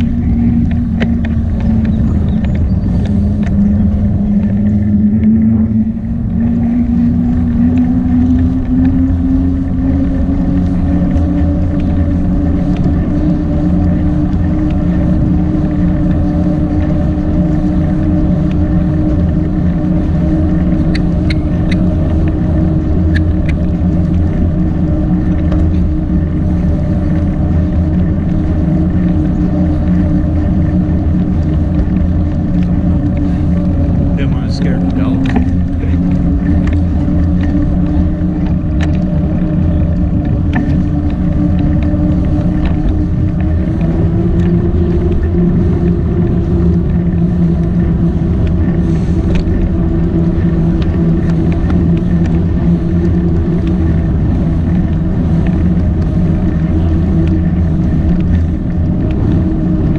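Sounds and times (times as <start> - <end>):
low rumble: 0.0 - 59.9
motor humming: 0.0 - 59.9.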